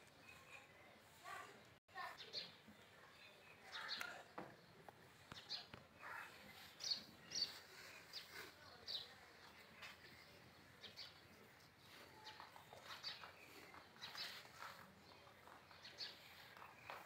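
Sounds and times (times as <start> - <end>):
faint birds chirping: 0.0 - 17.0
low outdoor background noise: 0.0 - 17.0.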